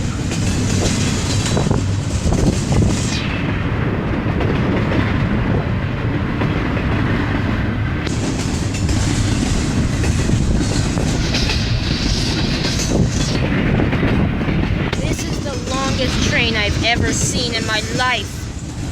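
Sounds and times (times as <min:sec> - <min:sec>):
freight train wheels rumbling on rail: 0:00.0 - 0:18.9.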